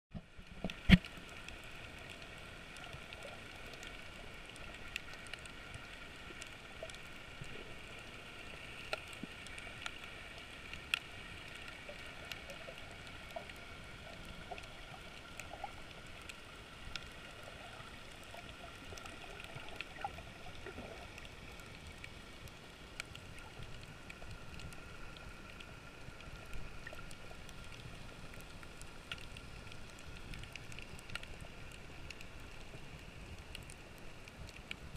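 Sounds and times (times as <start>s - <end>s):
faint clicks: 0.2s - 34.9s
muffled underwater hiss: 0.2s - 34.9s.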